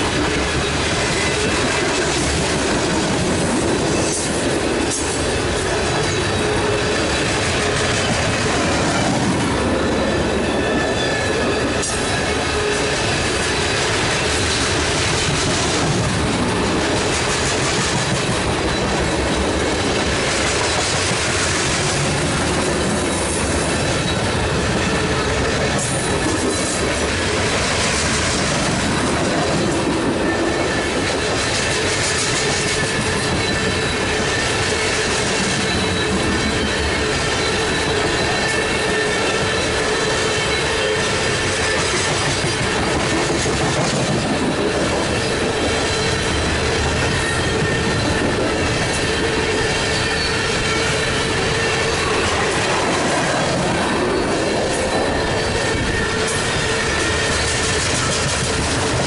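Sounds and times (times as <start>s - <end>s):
steel wheels rolling on rails: 0.0s - 59.0s.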